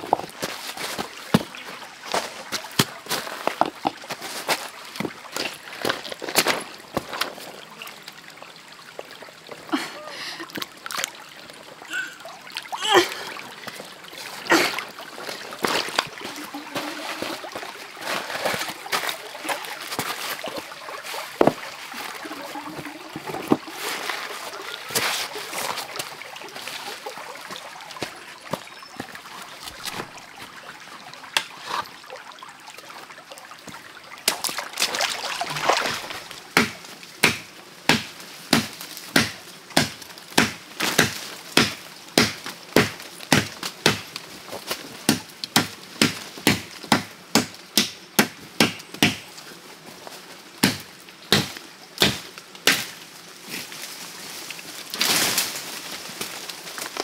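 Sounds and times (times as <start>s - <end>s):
rustle: 0.0s - 8.4s, 9.1s - 32.2s, 32.8s - 57.0s
stream water trickling: 0.0s - 57.0s.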